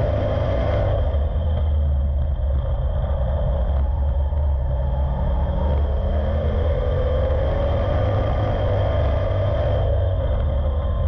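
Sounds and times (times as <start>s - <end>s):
race car engine rumbling: 0.0s - 11.0s.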